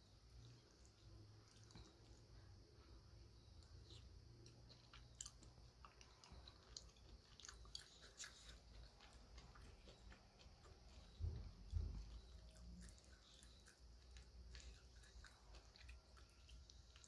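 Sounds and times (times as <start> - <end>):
chewing noodle soup: 0.2 - 2.8, 3.4 - 17.0.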